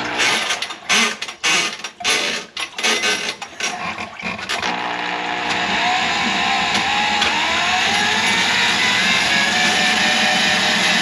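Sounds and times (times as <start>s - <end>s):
drain auger motor whining: 0.0s - 1.6s, 2.8s - 11.0s.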